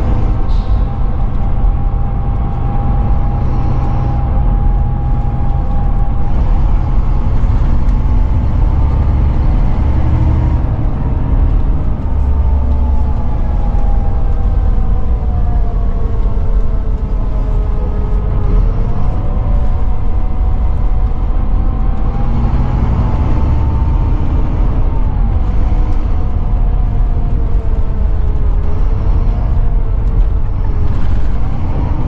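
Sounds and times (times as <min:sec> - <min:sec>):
coach engine rumble: 0:00.0 - 0:32.0
drivetrain whine: 0:00.0 - 0:32.0
road noise: 0:00.0 - 0:32.0.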